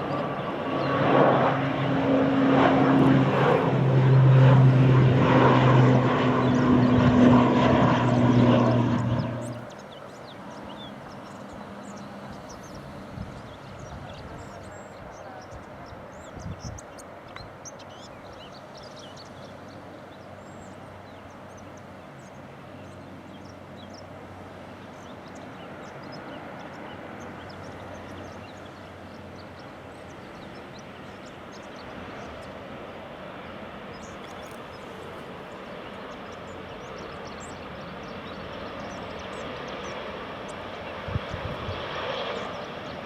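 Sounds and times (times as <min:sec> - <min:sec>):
aircraft engine rumble: 0:00.0 - 0:43.0.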